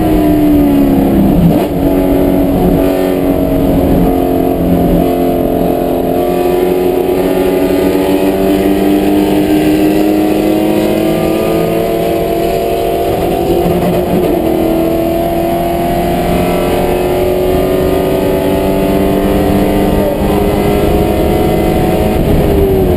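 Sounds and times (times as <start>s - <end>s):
race car engine at high revs: 0.0s - 22.9s
road and wind noise: 0.0s - 22.9s.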